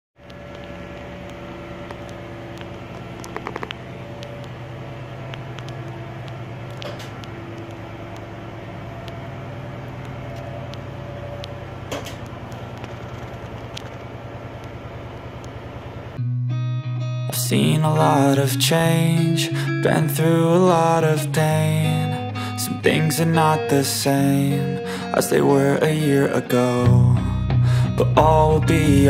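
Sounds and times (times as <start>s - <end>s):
diesel generator pulsing hum: 0.2s - 16.3s, 17.4s - 29.0s.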